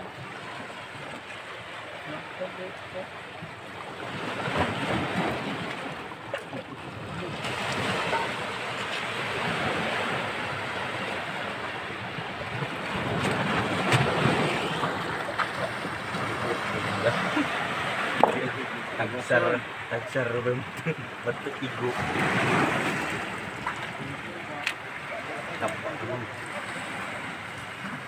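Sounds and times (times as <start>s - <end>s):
sea water surging among rocks: 0.0s - 28.0s.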